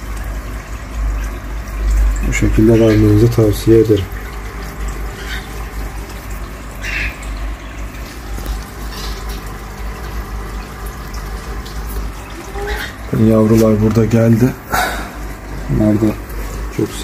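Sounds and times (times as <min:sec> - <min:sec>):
aquarium filter bubbling: 0:00.0 - 0:17.0.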